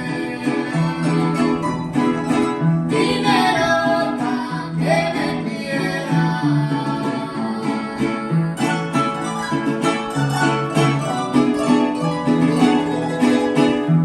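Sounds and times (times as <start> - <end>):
person singing: 0.0 - 13.7
plucked guitar: 0.0 - 14.0.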